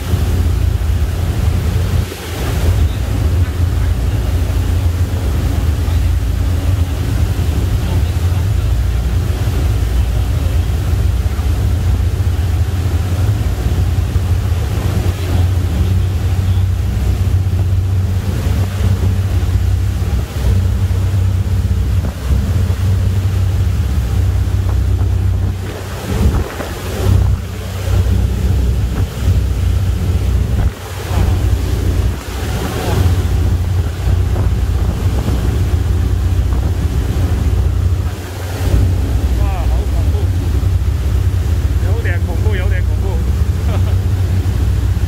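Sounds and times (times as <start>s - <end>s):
ship engine low drone: 0.0s - 45.0s
waves washing past hull: 0.0s - 45.0s
wind buffeting microphone: 0.0s - 45.0s.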